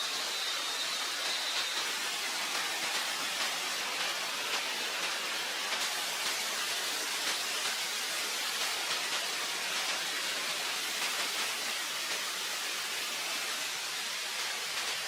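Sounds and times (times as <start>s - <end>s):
running water hiss: 0.0s - 15.0s.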